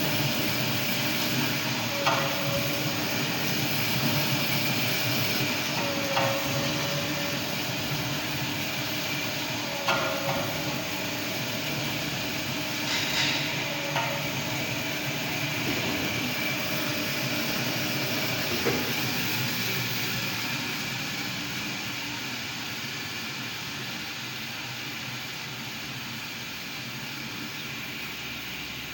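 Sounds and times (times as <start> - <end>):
machine mechanical hum: 0.0 - 28.9.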